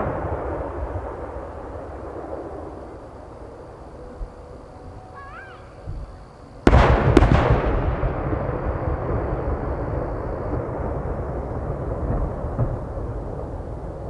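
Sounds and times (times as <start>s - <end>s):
firework shells booming: 0.0s - 3.4s, 5.9s - 14.0s
rolling echo rumble: 0.0s - 14.0s.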